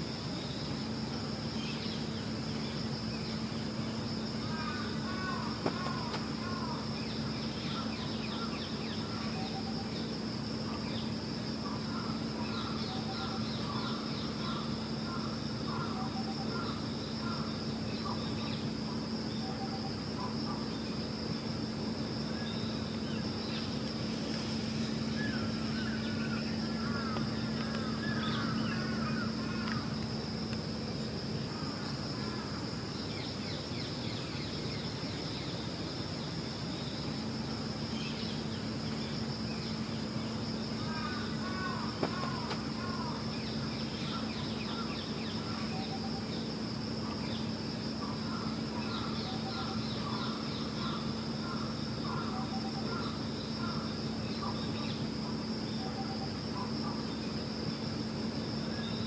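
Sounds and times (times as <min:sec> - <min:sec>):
constant high-pitched tone: 0:00.0 - 0:59.0
steady low hum: 0:00.0 - 0:59.0.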